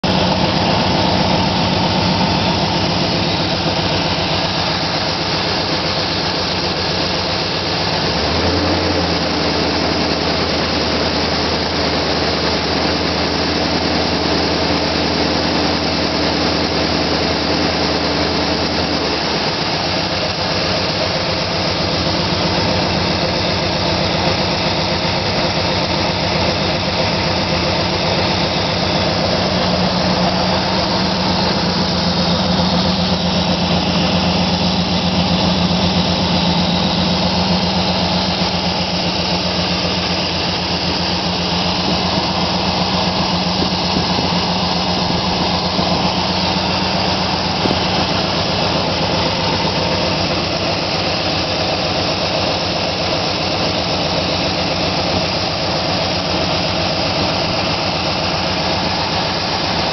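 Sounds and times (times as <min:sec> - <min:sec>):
car engine running and revving: 0:00.0 - 0:59.9.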